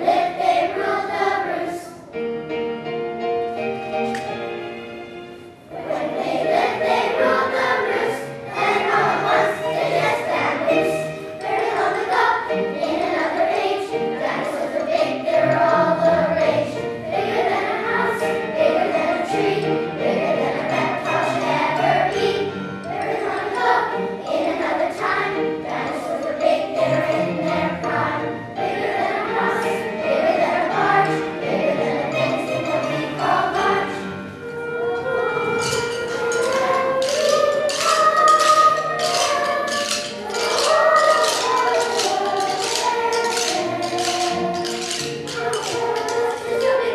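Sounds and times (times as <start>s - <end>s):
children's choir singing: 0.0s - 2.3s, 3.5s - 46.9s
instrumental accompaniment with beat: 2.3s - 46.9s.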